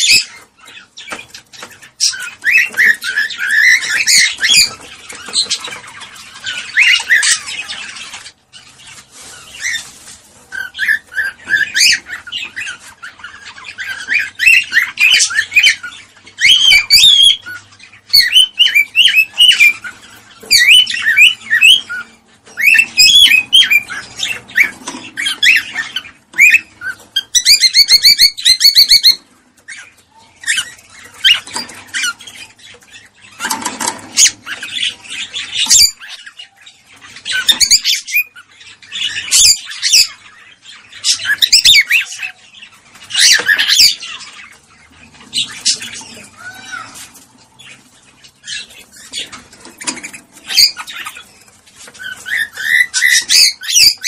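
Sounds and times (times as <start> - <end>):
cockatiels chirping and whistling: 0.0 - 54.0.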